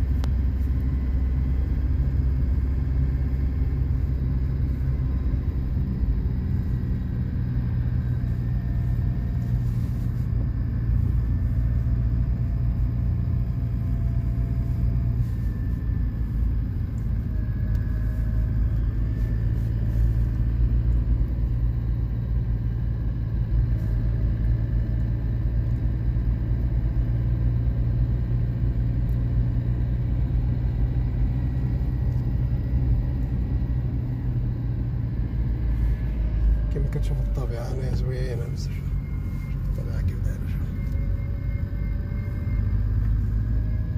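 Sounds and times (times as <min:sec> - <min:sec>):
engine and tyre rumble: 0:00.0 - 0:43.9
faint wavering whines: 0:00.0 - 0:43.9.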